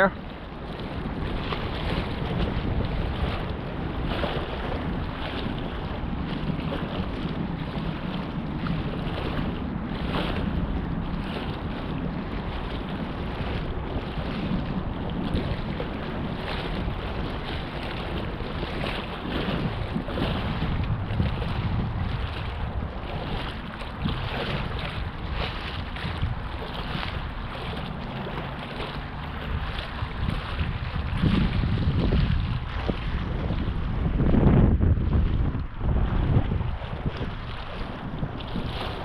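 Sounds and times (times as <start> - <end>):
water lapping against sea wall: 0.0 - 39.0
wind buffeting microphone: 0.0 - 39.0.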